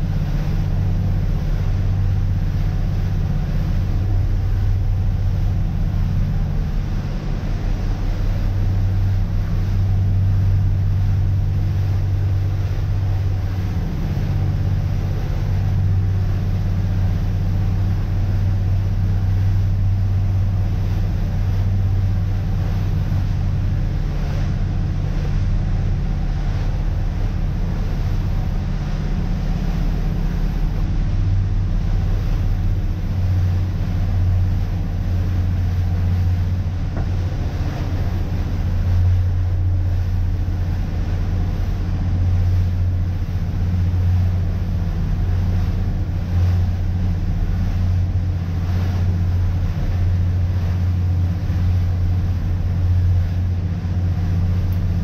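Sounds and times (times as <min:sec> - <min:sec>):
boat engines droning: 0:00.0 - 0:55.0
hiss of water and wind: 0:00.0 - 0:55.0.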